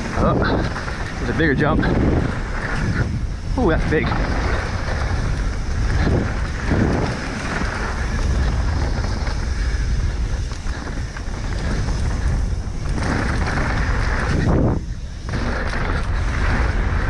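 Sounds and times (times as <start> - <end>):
mountain bike rolling on dirt: 0.0 - 17.0
wind buffeting microphone: 0.0 - 17.0.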